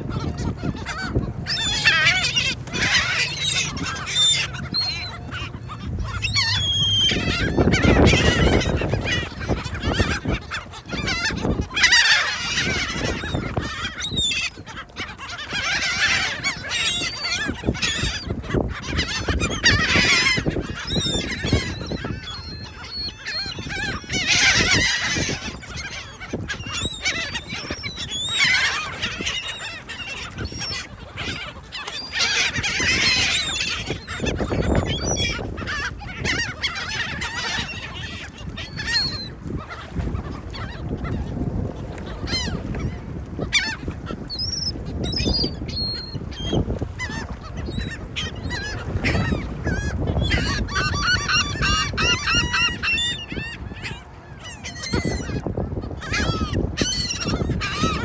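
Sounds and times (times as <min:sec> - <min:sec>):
gulls squawking: 0:00.0 - 0:58.0.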